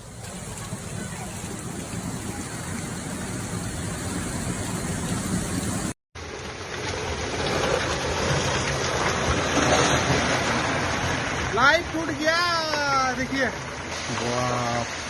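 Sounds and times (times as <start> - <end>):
floodwater rushing: 0.0 - 15.0
heavy rain: 0.0 - 15.0.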